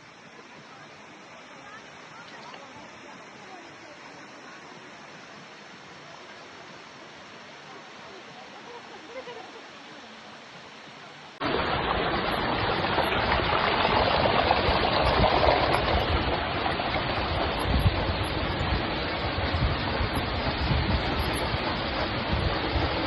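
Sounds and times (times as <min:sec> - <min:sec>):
waterfall rushing water: 0:00.0 - 0:23.0.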